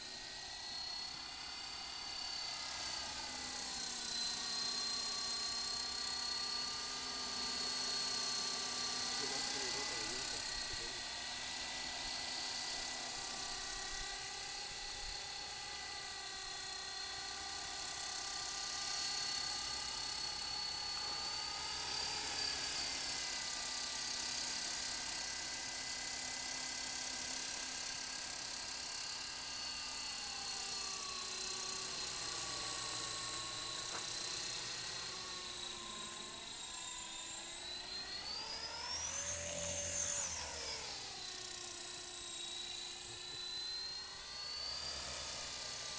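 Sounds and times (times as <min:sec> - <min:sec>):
rc helicopter motor whine: 0:00.0 - 0:45.9.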